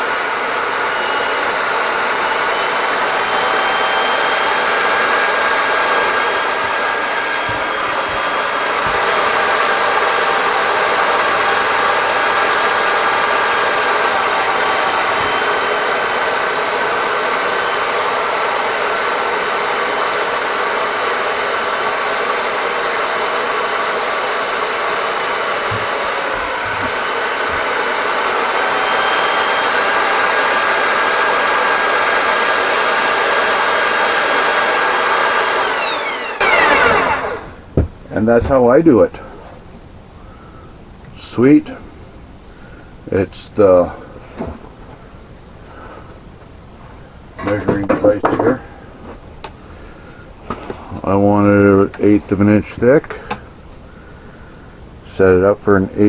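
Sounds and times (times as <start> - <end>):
belt sander whining: 0.0 - 56.0.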